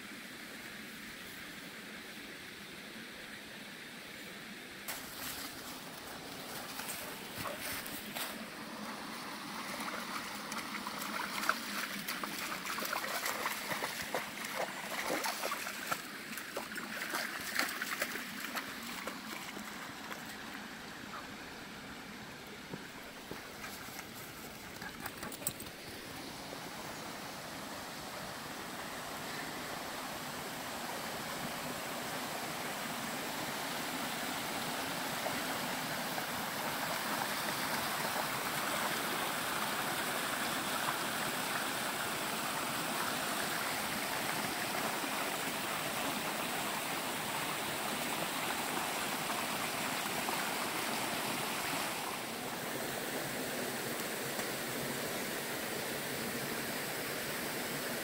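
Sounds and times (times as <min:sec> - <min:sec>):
stream rushing over waterfall: 0:00.0 - 0:24.8, 0:25.5 - 0:58.0.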